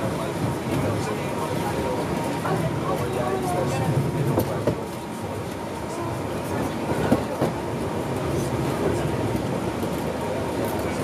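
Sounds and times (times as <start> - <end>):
rack railway train rumbling: 0.0 - 11.0.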